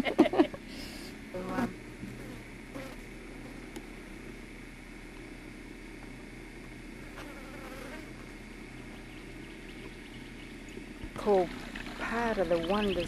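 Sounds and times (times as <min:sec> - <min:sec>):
insects buzzing: 0:00.0 - 0:13.0
low steady hum: 0:00.0 - 0:13.0.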